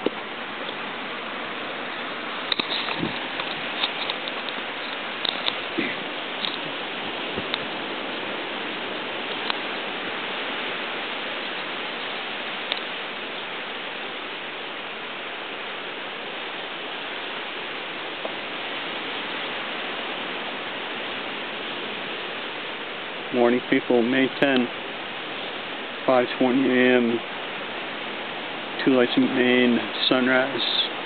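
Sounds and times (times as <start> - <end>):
surf on rocky shoreline: 0.0 - 31.0.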